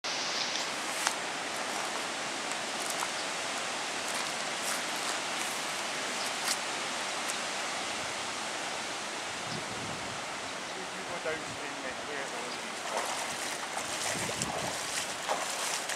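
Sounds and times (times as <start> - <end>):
wind through trees and grass: 0.0 - 15.9.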